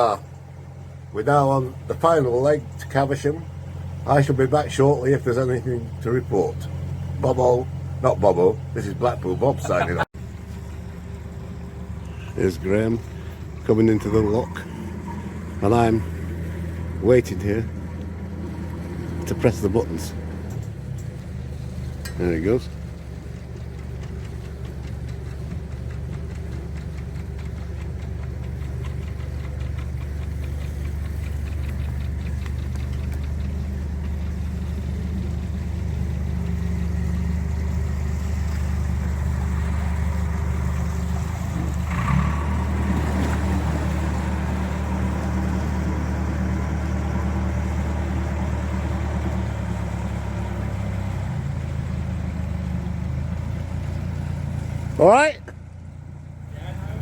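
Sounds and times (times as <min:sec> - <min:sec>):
motor boat engine running: 0:00.0 - 0:57.0.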